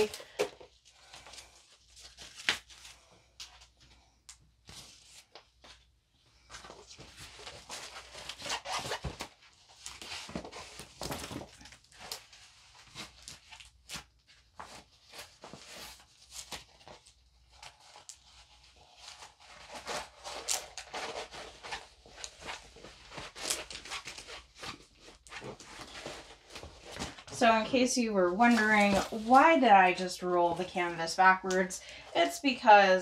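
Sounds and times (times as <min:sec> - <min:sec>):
canvas rustling and crackling: 0:04.6 - 0:31.7.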